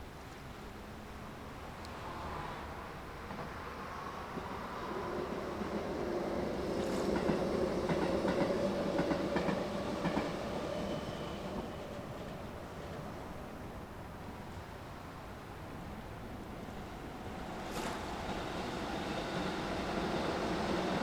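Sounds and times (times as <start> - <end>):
train passing: 1.2 - 21.0.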